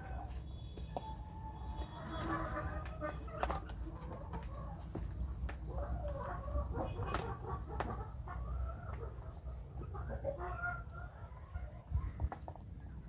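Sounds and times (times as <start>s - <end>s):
beaks tapping water trough: 0.0s - 11.0s
young chickens calling: 0.0s - 13.0s.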